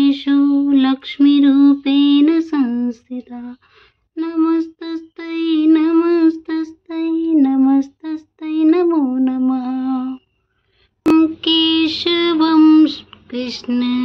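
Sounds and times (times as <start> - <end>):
woman singing devotional chant: 0.0 - 10.3, 11.1 - 14.0.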